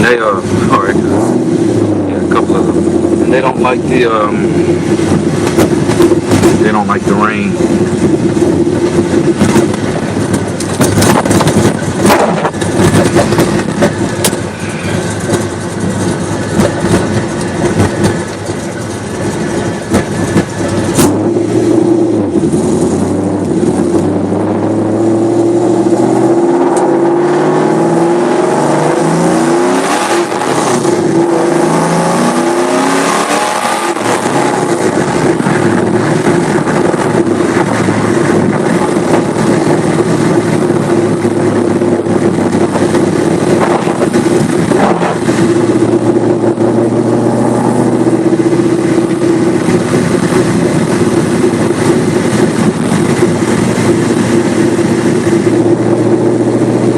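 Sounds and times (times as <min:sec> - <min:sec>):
car engine revving: 0:00.0 - 0:56.9
tyres on wet road: 0:00.0 - 0:56.9.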